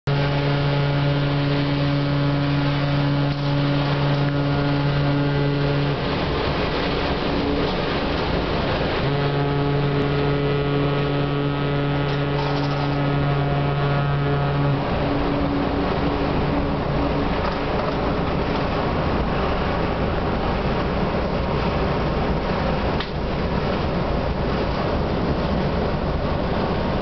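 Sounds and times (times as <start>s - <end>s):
ship's horn deep blasts: 0.0s - 27.0s.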